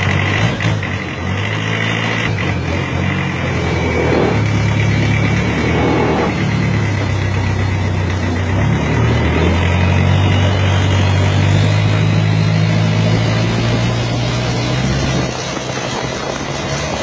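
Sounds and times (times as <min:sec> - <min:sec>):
boat engine running hard: 0:00.0 - 0:17.0.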